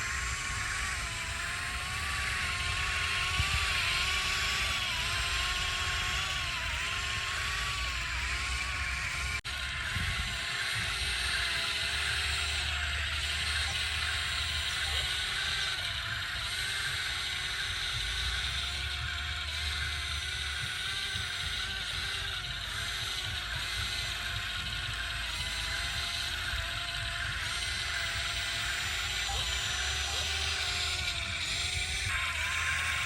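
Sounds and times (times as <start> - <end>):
excavator machine drone: 0.0 - 33.0.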